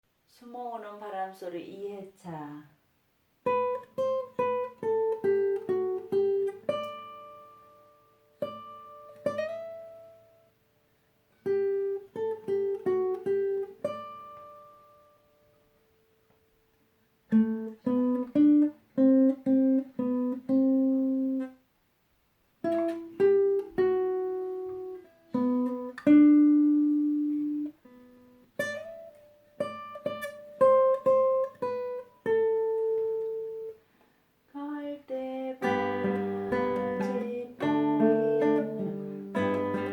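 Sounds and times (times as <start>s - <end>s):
acoustic guitar plucked melody: 3.4s - 21.6s, 22.6s - 34.0s, 34.7s - 39.9s.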